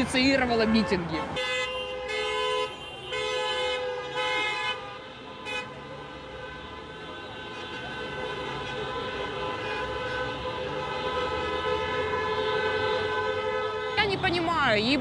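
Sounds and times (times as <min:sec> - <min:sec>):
vehicle horns honking: 0:00.8 - 0:14.9.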